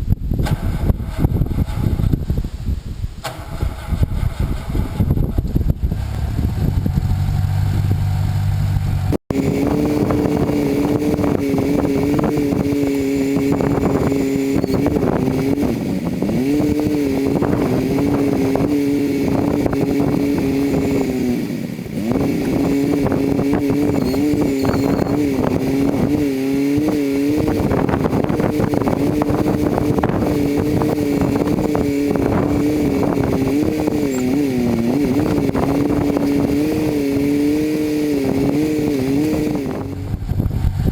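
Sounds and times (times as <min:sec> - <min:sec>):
backhoe engine running fast: 0:00.2 - 0:40.9.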